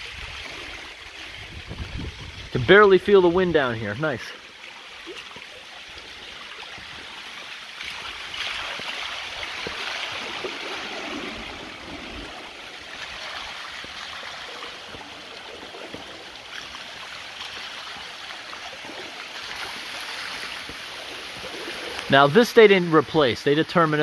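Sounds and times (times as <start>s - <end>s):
water rushing over dam: 0.0s - 24.0s.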